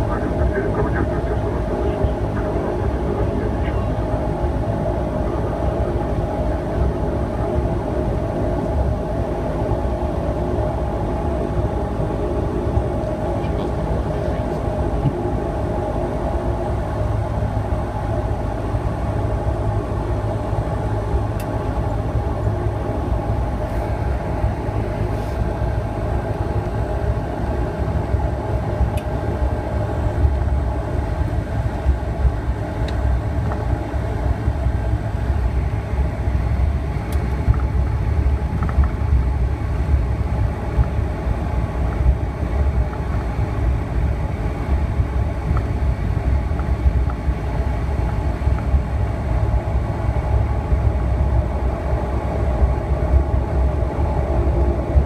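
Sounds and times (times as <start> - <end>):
turboprop engine drone: 0.0 - 55.0.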